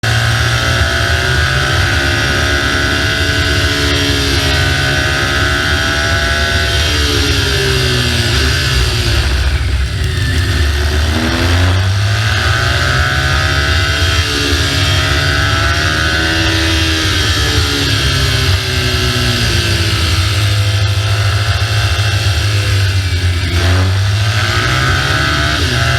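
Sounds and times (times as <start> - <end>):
motorcycle engine: 0.0 - 25.9
wind and road noise: 0.0 - 25.9.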